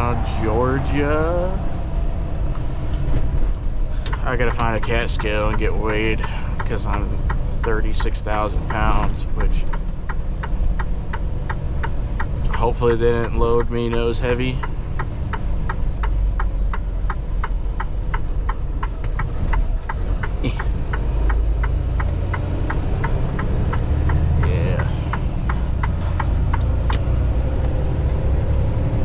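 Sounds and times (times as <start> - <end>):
diesel engine rumbling: 0.0 - 29.0
turn signal clicking: 2.0 - 28.6.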